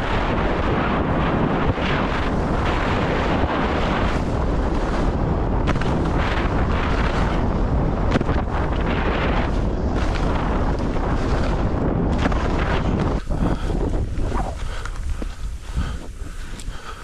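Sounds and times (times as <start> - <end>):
skis scraping on snow: 0.0 - 17.0
wind buffeting microphone: 0.0 - 17.0.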